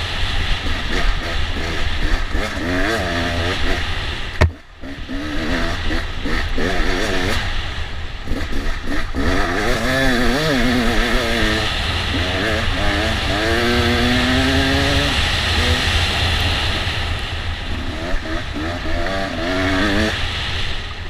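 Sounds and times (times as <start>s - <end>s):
dirt bike engine revving: 0.0s - 20.7s.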